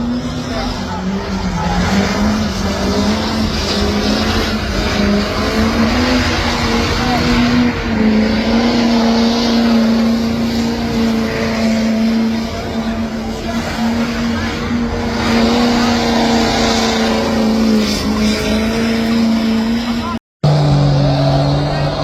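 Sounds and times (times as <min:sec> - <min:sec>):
diesel truck engine revving high: 0:00.0 - 0:22.0.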